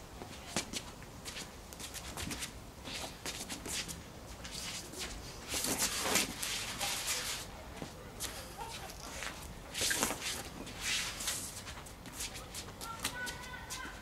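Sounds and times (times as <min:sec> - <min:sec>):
footwork scuffing on stone paving: 0:00.2 - 0:14.0.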